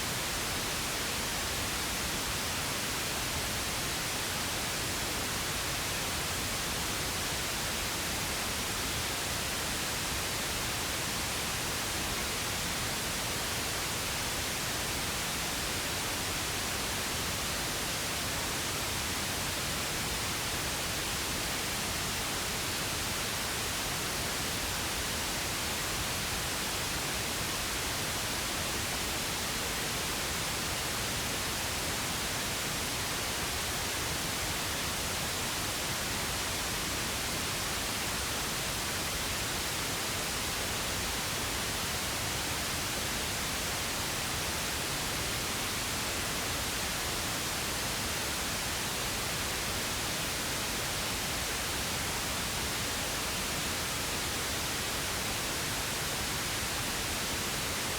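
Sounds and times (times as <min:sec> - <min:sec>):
pink noise hiss: 0:00.0 - 0:57.9.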